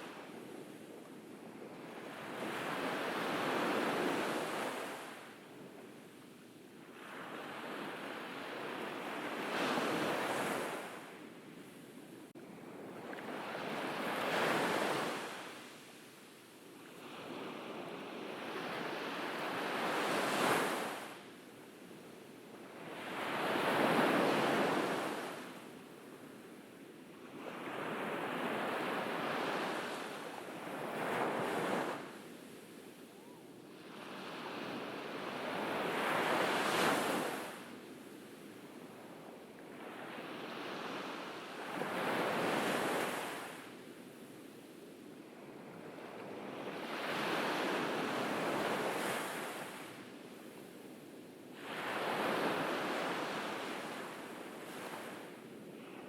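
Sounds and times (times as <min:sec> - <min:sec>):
ocean waves breaking on beach: 0:01.5 - 0:05.7, 0:06.8 - 0:11.8, 0:12.4 - 0:21.3, 0:22.5 - 0:26.3, 0:27.2 - 0:43.8, 0:45.3 - 0:56.0.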